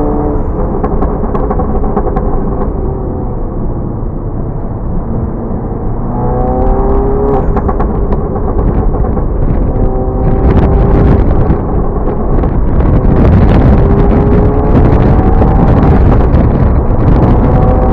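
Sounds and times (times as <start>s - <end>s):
exhaust pops and crackles: 0.0s - 3.1s, 6.6s - 17.9s
car engine revving: 0.0s - 17.9s.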